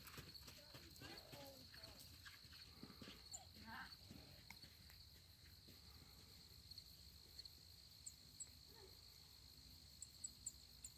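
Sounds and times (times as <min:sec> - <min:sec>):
insect trill: 0:00.0 - 0:10.9.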